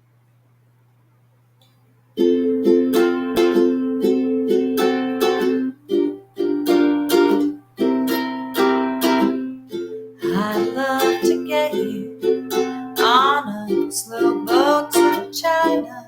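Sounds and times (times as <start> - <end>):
ukulele strumming chords: 2.2 - 16.0.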